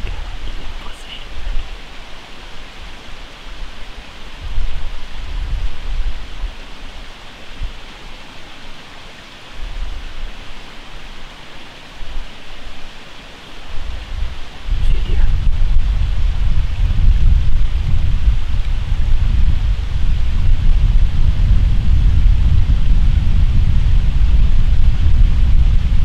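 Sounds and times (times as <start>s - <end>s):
steady outdoor hiss: 0.0s - 26.0s
wind rumble on microphone: 0.0s - 26.0s.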